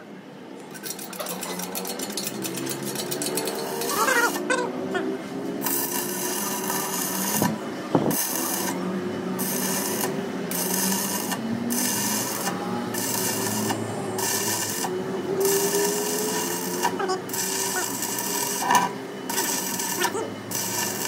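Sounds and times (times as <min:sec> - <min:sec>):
welding arc crackling and hissing: 0:00.7 - 0:04.5, 0:05.6 - 0:21.0.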